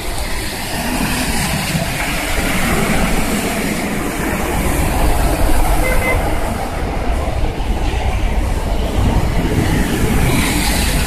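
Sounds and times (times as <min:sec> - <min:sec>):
heavy rain: 0:00.0 - 0:11.0
tyres spraying through water: 0:00.0 - 0:11.0.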